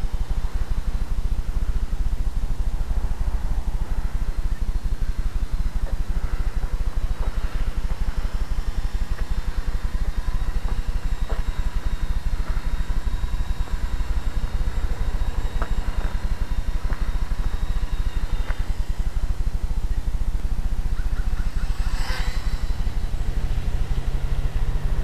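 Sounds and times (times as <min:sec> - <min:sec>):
faint steady whine: 0:00.0 - 0:25.0.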